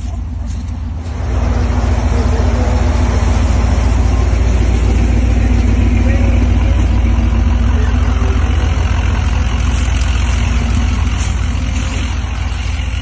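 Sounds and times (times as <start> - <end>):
buggy engine running loud: 0.0 - 13.0
quiet vehicle hum: 0.0 - 13.0.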